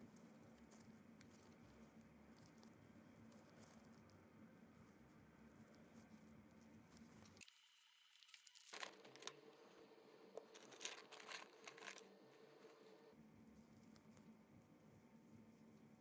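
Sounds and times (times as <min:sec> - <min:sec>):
rustling: 0:00.0 - 0:07.5, 0:08.2 - 0:16.0.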